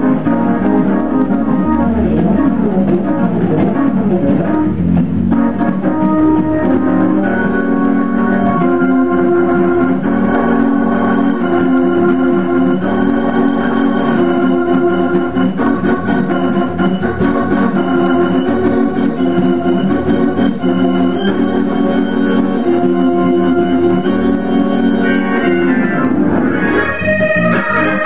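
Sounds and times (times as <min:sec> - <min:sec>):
gospel organ chords: 0:00.0 - 0:28.0
organ bass line: 0:00.0 - 0:28.0.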